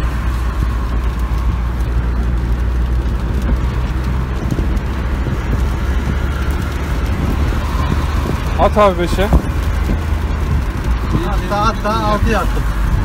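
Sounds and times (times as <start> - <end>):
road noise: 0.0 - 13.0
van engine drone: 0.0 - 13.0.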